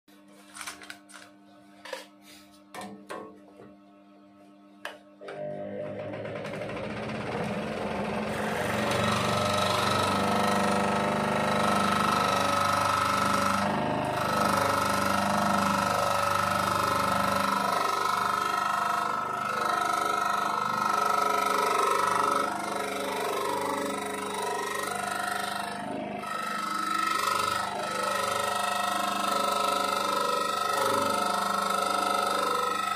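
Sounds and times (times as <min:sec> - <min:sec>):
scroll saw cutting plastic: 0:06.2 - 0:32.9.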